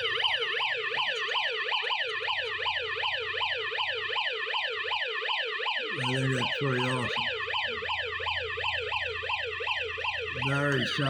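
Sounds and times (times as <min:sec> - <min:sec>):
toy siren yelping: 0:00.0 - 0:11.0.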